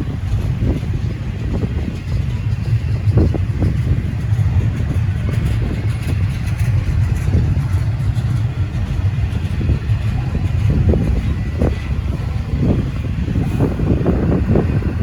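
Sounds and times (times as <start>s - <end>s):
freight train rumbling past: 0.0s - 15.0s
wind buffeting microphone: 0.0s - 15.0s.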